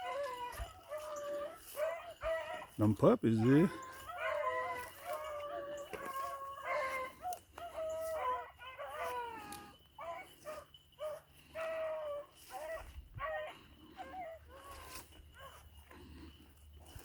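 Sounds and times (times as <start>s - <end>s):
beagles baying: 0.0s - 17.0s
hounds yelping: 0.0s - 17.0s.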